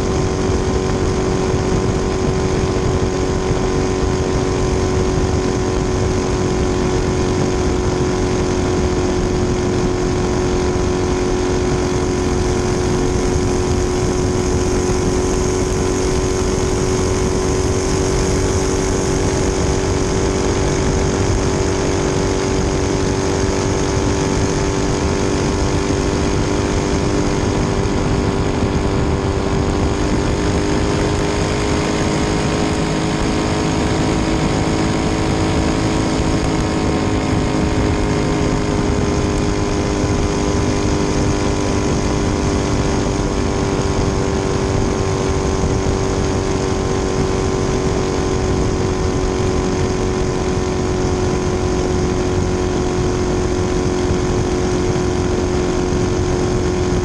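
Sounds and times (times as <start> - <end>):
race boat engine running hard: 0.0 - 57.0.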